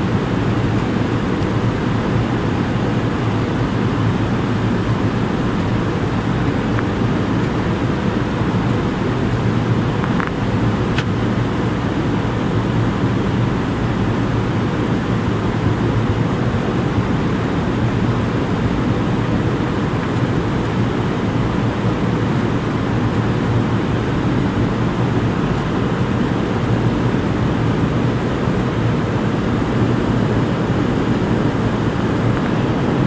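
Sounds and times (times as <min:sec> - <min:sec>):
airplane cabin airflow rush: 0:00.0 - 0:33.0
jet engines droning: 0:00.0 - 0:33.0.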